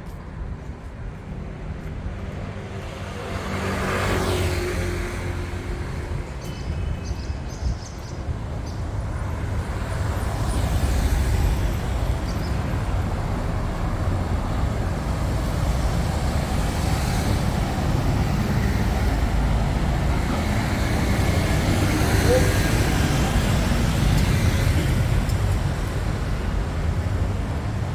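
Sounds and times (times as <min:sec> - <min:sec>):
road traffic rumble: 0:00.0 - 0:27.9.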